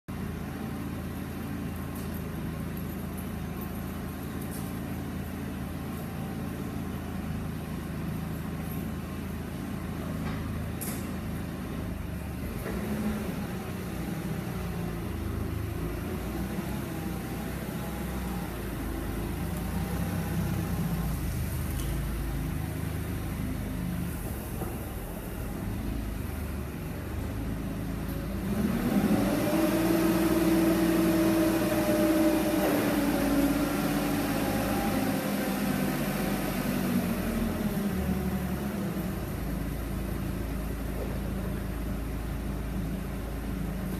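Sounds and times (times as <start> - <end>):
forklift engine: 0.1 - 43.9.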